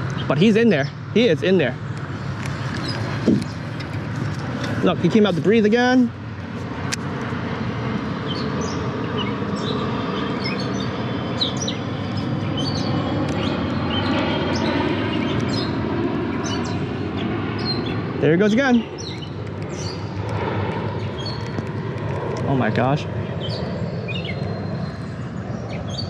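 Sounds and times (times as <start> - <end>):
small birds chirping: 0.0 - 5.4, 8.2 - 22.0, 22.6 - 26.0.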